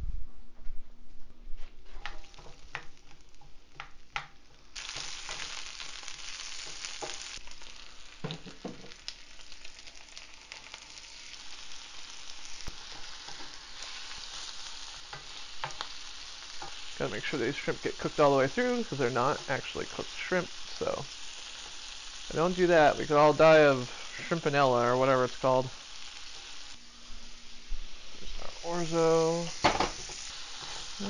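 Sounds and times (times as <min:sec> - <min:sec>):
food sizzling in a frying pan: 0:01.8 - 0:31.0.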